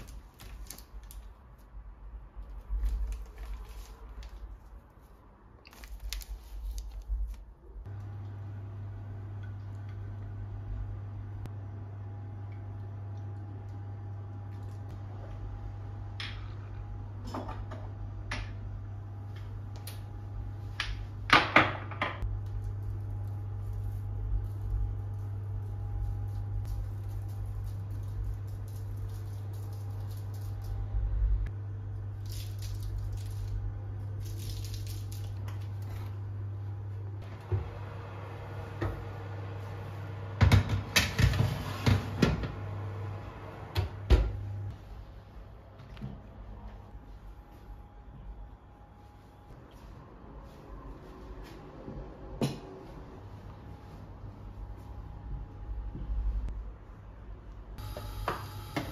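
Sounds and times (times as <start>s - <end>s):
electric oven humming: 7.8s - 58.9s.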